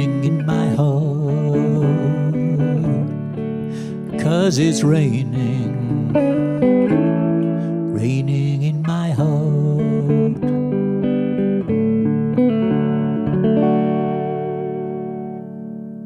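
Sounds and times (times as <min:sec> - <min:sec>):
jazz guitar playing: 0:00.0 - 0:16.0.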